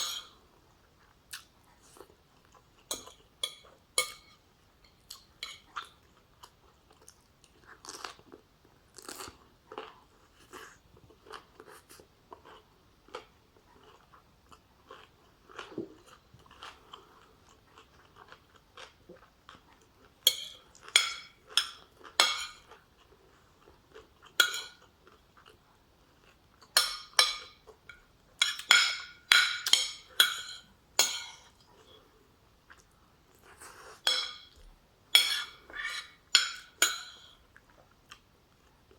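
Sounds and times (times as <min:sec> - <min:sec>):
person chewing and crunching food: 0:00.0 - 0:38.9.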